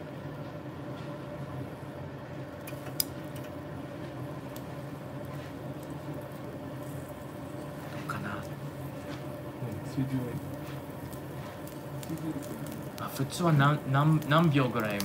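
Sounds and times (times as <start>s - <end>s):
meat hissing on a grill: 2.8s - 15.0s.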